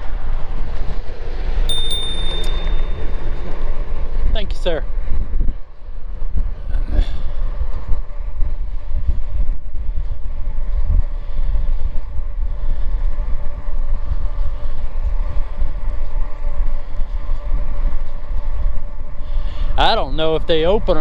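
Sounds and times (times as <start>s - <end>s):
electric bike whine: 0.0s - 19.8s.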